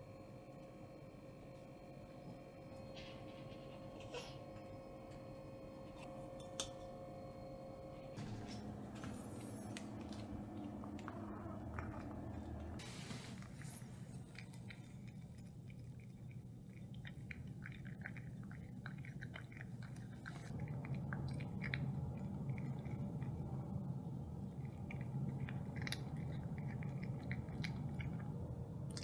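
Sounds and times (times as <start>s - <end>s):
low hum: 0.0s - 16.5s, 20.5s - 29.0s
cat crunching and chewing: 2.1s - 29.0s.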